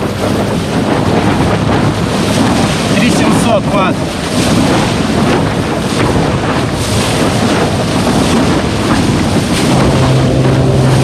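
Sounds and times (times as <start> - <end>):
water rushing and splashing: 0.0 - 11.0
wind buffeting microphone: 0.0 - 11.0.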